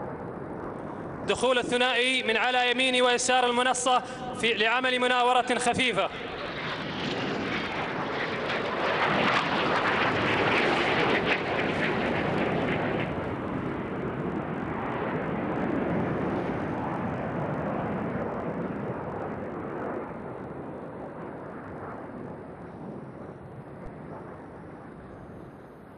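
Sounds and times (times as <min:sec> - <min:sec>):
jets flying low pass: 0:00.0 - 0:25.9.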